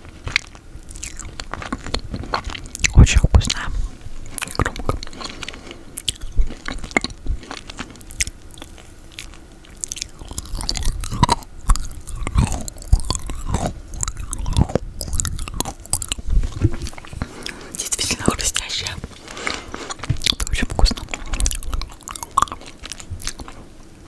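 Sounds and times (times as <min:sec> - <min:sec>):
sticky chewing: 0:00.0 - 0:24.0
lip smacks: 0:04.3 - 0:23.6.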